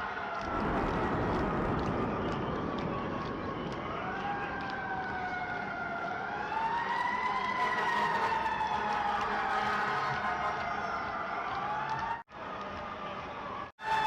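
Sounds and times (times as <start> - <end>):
emergency siren wailing: 0.0 - 14.0
city traffic: 1.9 - 14.0.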